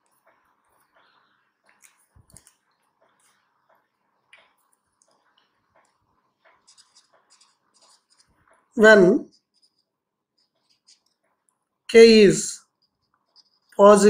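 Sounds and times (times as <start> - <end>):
markers clicking on paper: 0.0 - 11.6, 12.7 - 14.0.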